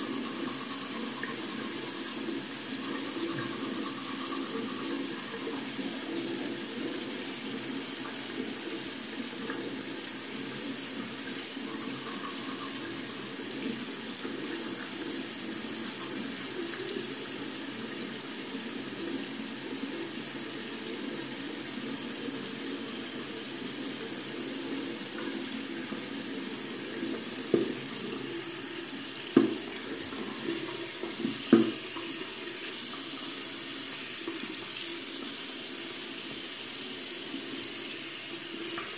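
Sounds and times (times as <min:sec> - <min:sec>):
faucet running into sink: 0:00.0 - 0:38.9.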